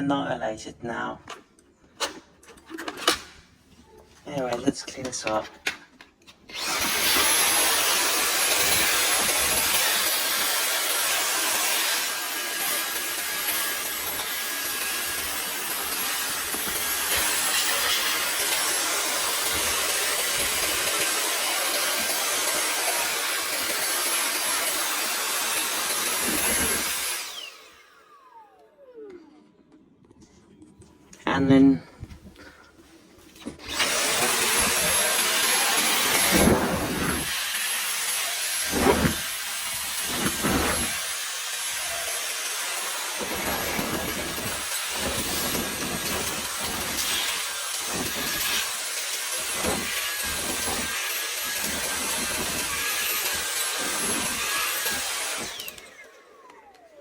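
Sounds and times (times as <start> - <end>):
cordless vacuum running: 6.5 - 29.4, 33.3 - 57.0.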